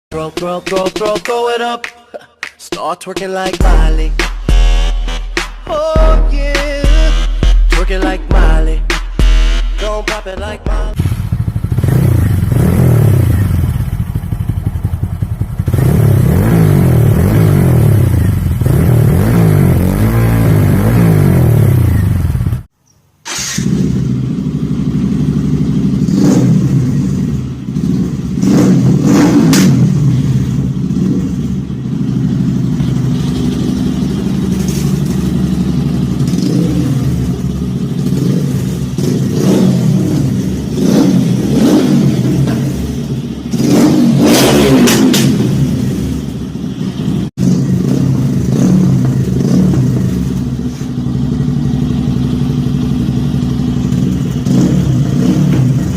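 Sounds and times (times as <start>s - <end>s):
motorcycle engine revving: 3.6s - 22.7s, 23.3s - 55.9s.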